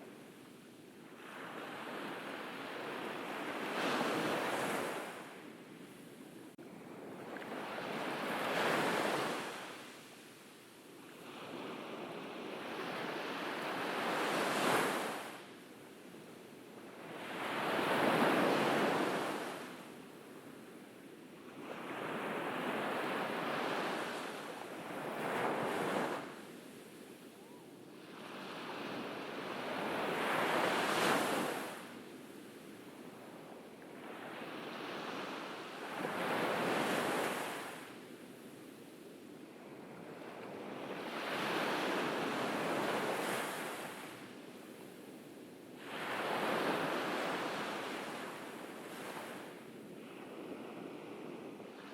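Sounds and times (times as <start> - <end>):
ocean waves breaking on beach: 1.1 - 5.5, 6.7 - 10.4, 11.1 - 15.6, 16.8 - 20.0, 21.5 - 38.0, 39.6 - 51.9.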